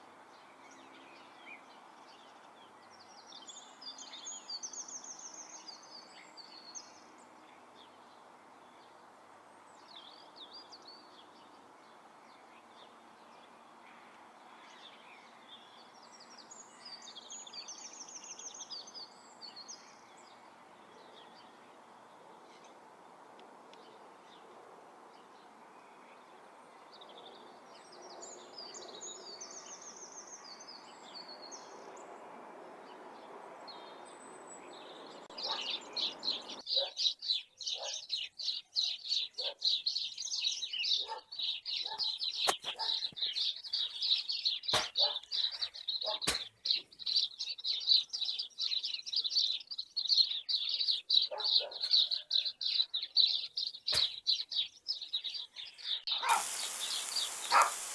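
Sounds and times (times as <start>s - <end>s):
small birds chirping: 0.0s - 32.1s, 32.8s - 57.9s.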